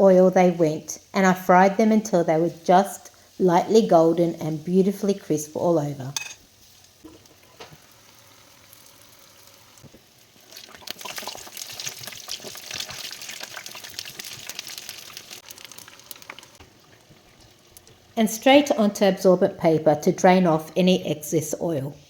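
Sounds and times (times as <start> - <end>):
batter frying in hot oil: 0.0 - 19.0.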